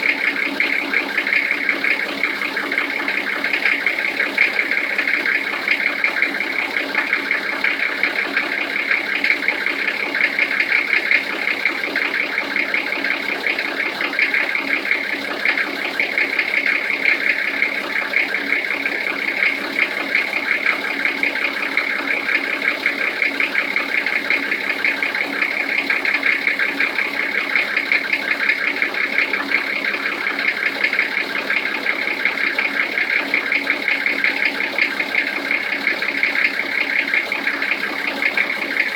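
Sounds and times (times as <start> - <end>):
diesel engine idling with knocking: 0.0 - 38.9.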